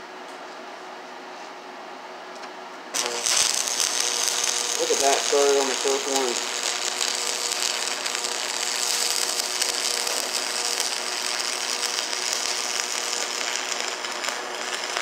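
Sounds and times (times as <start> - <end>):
welding arc sizzling crackle: 2.9 - 15.0.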